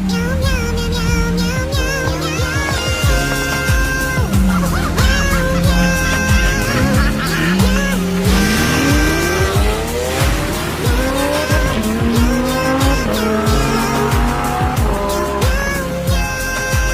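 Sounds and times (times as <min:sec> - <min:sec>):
sports car engine revving: 0:00.0 - 0:16.2
background music with steady beat: 0:00.0 - 0:16.9.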